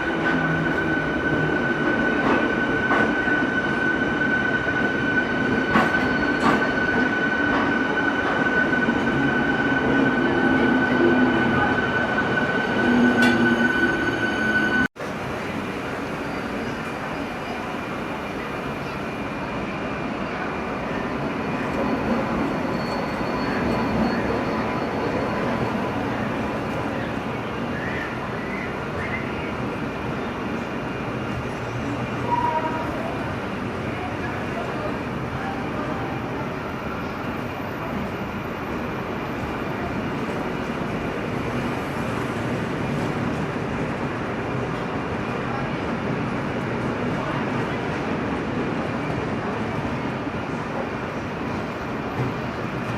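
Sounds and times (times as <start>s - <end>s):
passenger train running: 0.0s - 52.9s.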